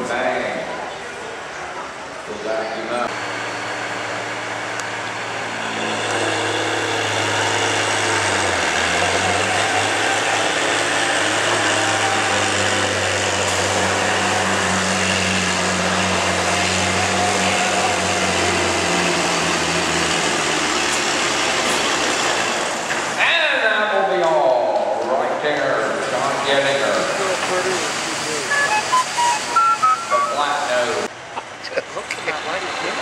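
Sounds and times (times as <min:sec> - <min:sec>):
truck diesel engine under load: 0:03.0 - 0:23.2, 0:25.8 - 0:33.0.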